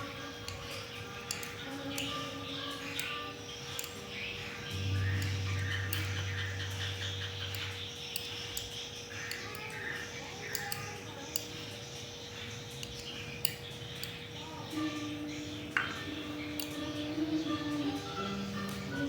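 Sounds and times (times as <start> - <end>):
faint steady hum: 0.0 - 19.0
utensils clicking against dishes: 0.0 - 19.0.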